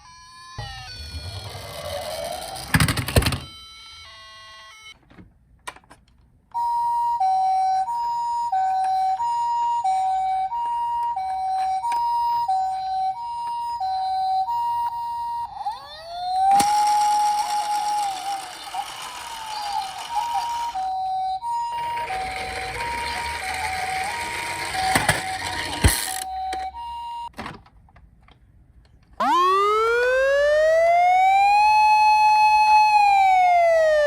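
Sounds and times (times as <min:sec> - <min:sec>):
toy two-tone siren: 0:00.0 - 0:05.0, 0:06.6 - 0:27.3, 0:29.2 - 0:34.0.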